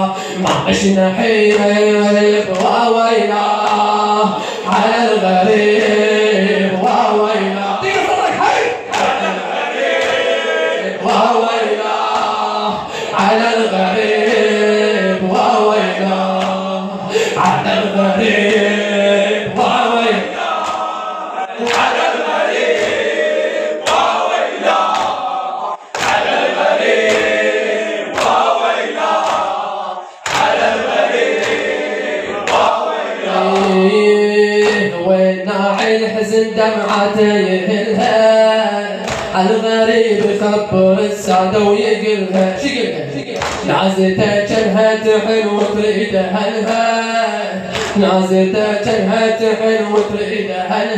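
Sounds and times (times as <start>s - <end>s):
men chanting a lament: 0.0s - 50.9s.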